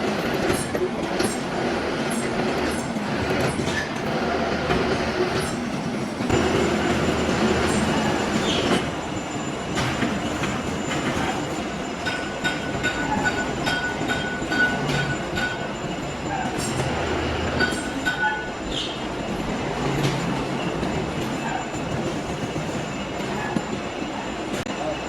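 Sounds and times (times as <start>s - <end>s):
metal lathe running: 1.6s - 23.4s.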